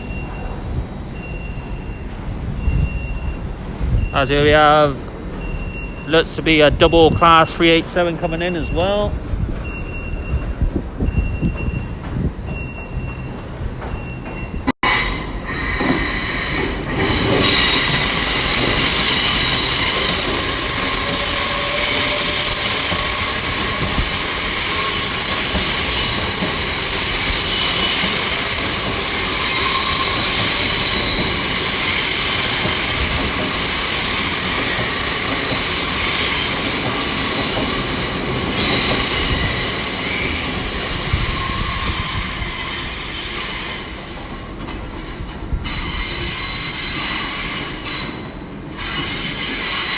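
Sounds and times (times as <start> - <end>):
train wheel squeal: 0.0 - 49.9.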